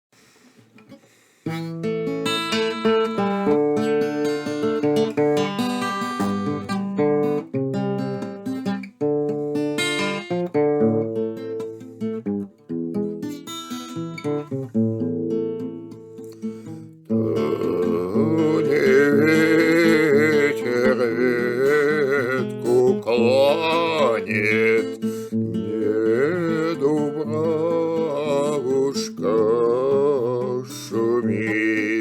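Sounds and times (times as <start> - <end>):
acoustic guitar playing: 0.6 - 32.0.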